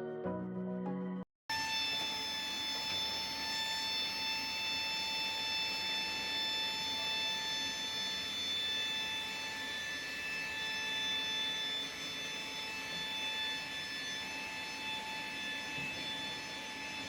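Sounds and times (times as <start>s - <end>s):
high-pitched machine whine: 1.5s - 17.0s.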